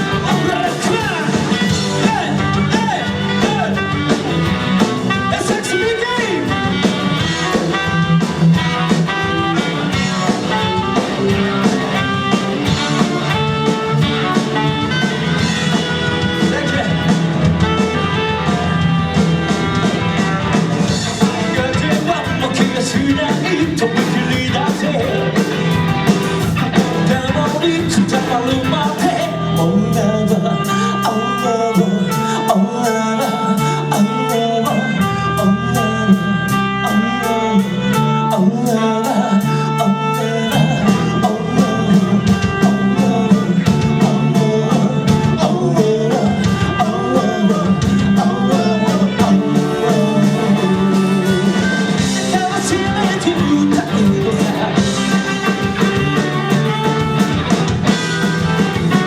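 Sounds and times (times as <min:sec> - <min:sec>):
person singing: 0:00.0 - 0:04.3, 0:05.1 - 0:19.2, 0:20.0 - 0:26.1, 0:26.7 - 0:59.0
drum kit: 0:00.0 - 0:30.6, 0:32.8 - 0:59.0
bass guitar: 0:00.0 - 0:59.0
electric guitar: 0:00.0 - 0:59.0.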